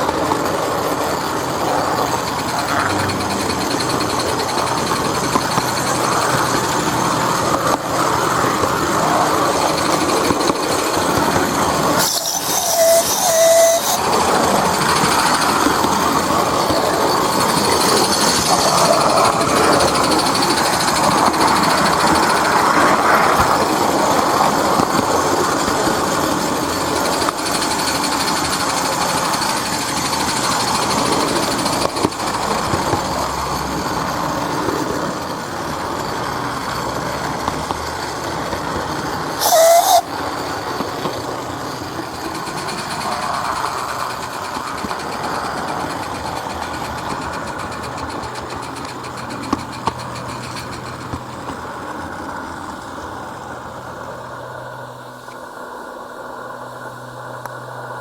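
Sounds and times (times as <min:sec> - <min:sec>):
model train wheels rattling: 0:00.0 - 0:54.1.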